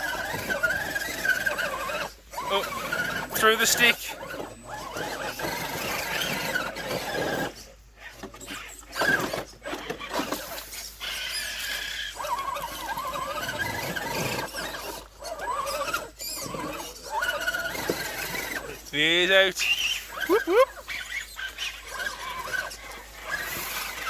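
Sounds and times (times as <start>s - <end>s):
rc car motor and gear whine: 0.0s - 24.0s.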